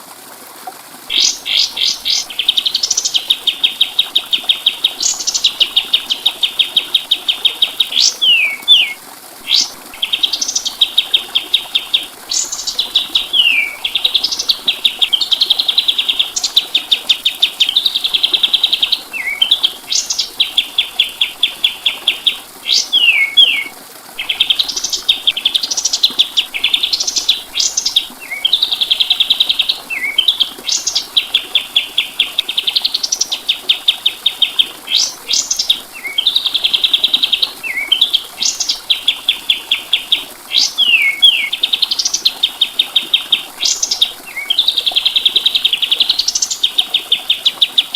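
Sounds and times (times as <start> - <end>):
songbird trilling: 1.1 - 47.8.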